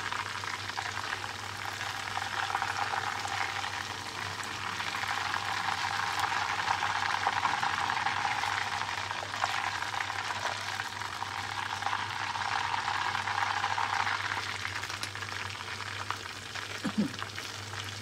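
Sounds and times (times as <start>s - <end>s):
shrimp deep-frying in oil: 0.0s - 18.0s.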